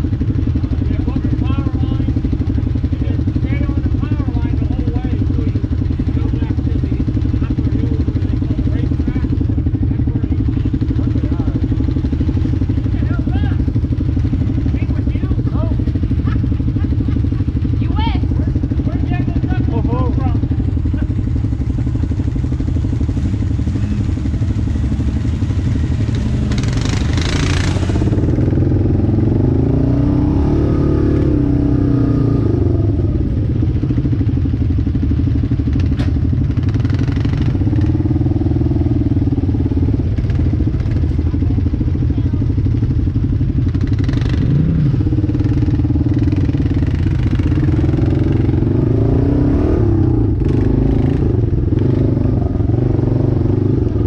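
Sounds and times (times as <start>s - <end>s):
atv engine idling and revving: 0.0s - 54.0s.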